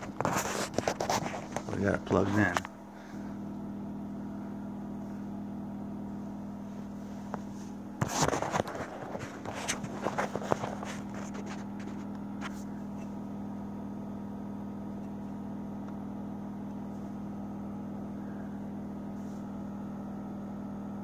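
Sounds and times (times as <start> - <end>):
pump motor humming: 0.0 - 21.0.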